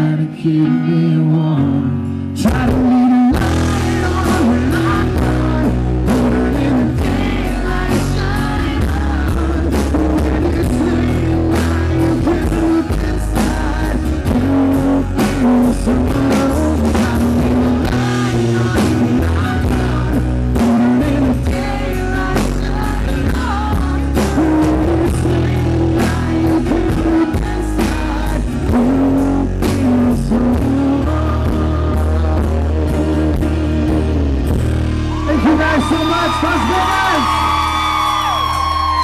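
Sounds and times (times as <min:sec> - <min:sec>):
electric guitar melody: 0:00.0 - 0:39.0
rock band playing instrumental: 0:01.4 - 0:39.0.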